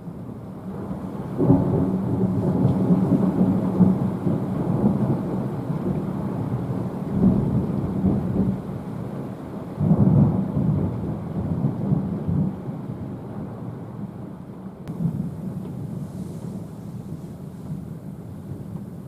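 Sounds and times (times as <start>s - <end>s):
rolling thunder: 0.1s - 19.0s.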